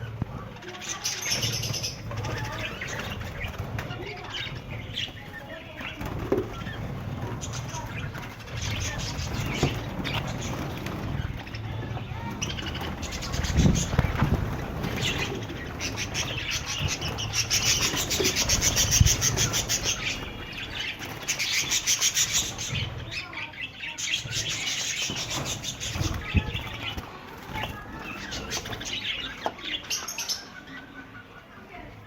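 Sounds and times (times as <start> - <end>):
budgerigars chattering: 0.7 - 31.7.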